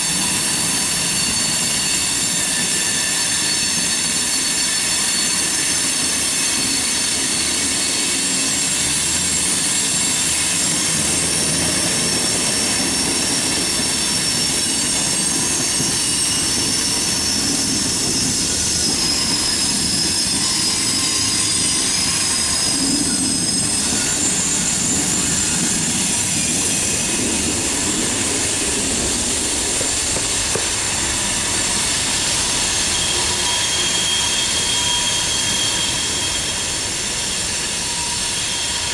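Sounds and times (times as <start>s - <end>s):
high-pitched wheel squeal: 0.0s - 38.9s
train wheels rumbling on rail: 0.0s - 38.9s.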